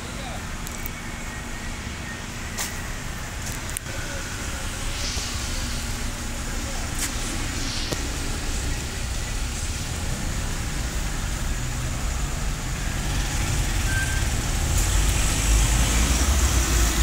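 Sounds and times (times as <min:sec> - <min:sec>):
car engines idling and pulling away: 0:00.0 - 0:17.0.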